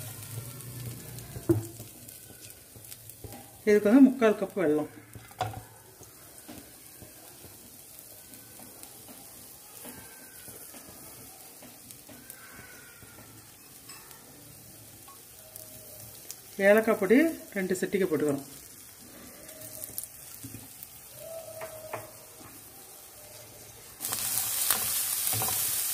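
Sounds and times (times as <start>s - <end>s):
food sizzling in a pan: 0.0s - 25.9s.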